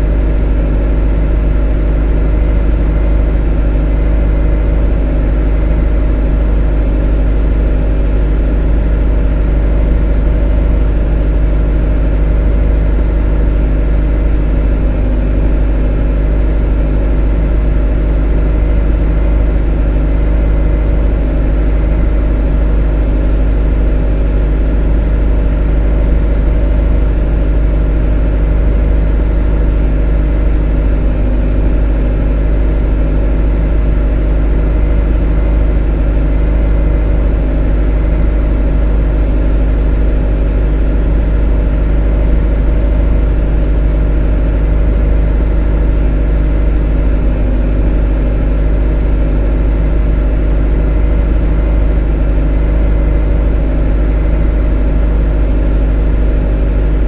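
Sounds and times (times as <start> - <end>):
motor droning: 0.0 - 57.0.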